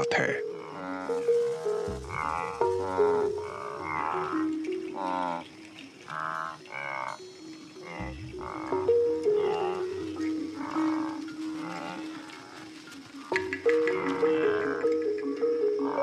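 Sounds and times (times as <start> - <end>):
music with long low notes: 0.0 - 16.0
wildebeest grunting: 0.0 - 16.0.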